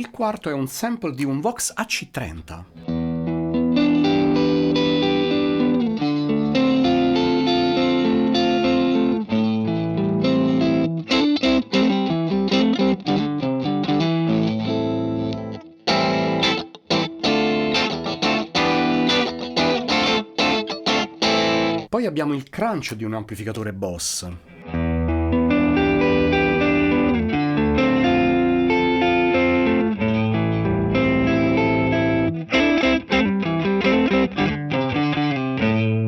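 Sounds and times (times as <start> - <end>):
electric guitar chords: 2.7 - 21.9, 24.5 - 36.0.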